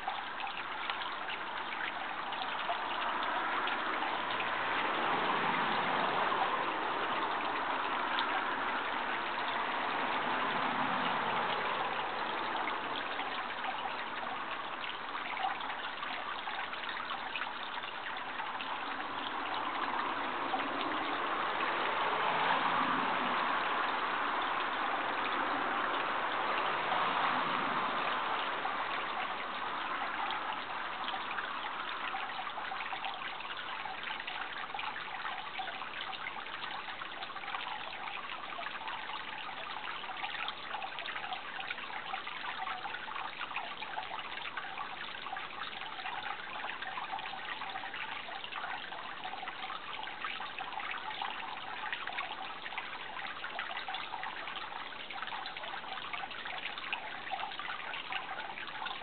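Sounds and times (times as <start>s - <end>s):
water trickling and babbling: 0.0s - 59.0s.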